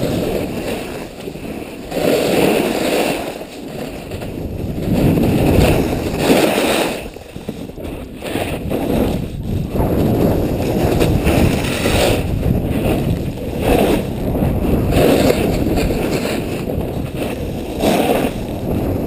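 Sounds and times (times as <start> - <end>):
snowboard edge scraping snow: 0.0 - 19.0
wind on microphone: 0.0 - 19.0.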